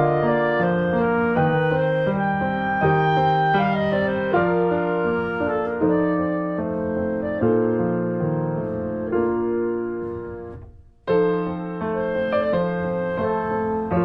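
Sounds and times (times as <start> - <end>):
solo piano playing chords: 0.0 - 14.0.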